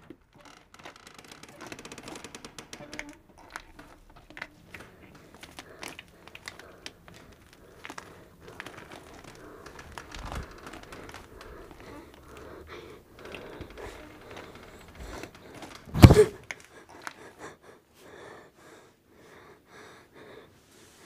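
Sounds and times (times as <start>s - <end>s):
crackling and rustling: 0.0s - 17.2s.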